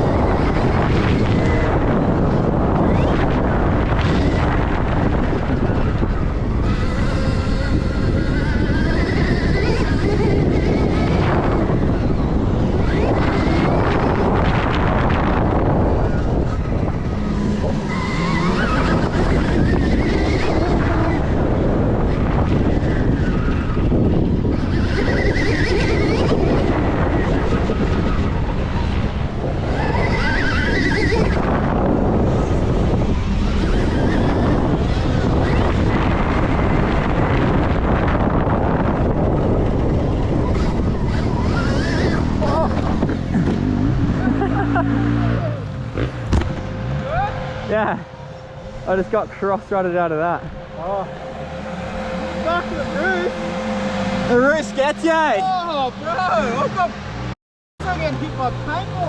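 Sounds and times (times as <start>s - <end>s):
electric motor whine: 0.0s - 59.0s
wind buffeting microphone: 0.0s - 59.0s.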